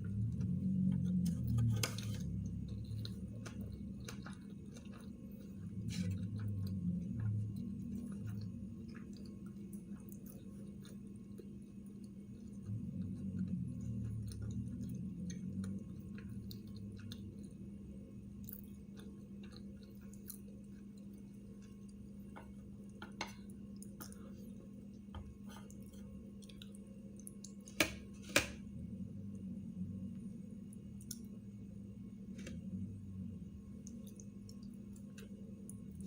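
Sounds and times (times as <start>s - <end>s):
person chewing food: 0.0s - 27.8s, 33.7s - 36.0s
steady low hum: 0.0s - 36.0s.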